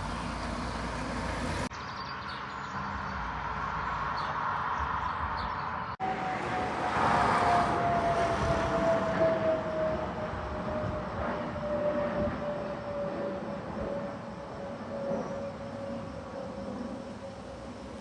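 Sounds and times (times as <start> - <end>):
passing engine hum: 0.0 - 1.7, 2.8 - 18.0.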